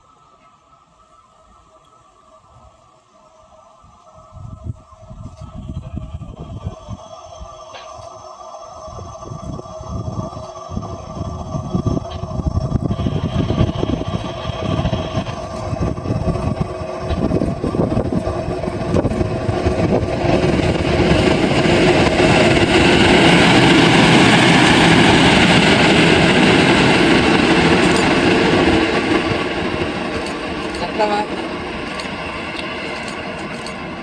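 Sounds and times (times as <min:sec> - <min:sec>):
train wheels on rails: 0:02.8 - 0:34.0.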